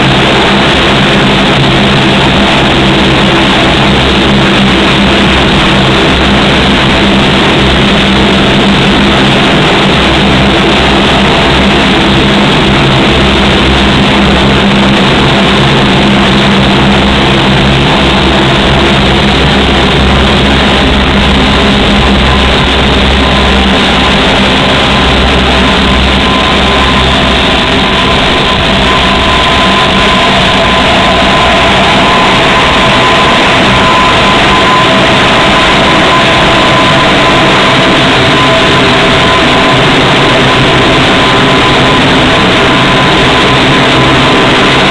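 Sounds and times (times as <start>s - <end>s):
high steady whine: 0.0s - 44.9s
turboprop aircraft engines droning: 0.0s - 44.9s.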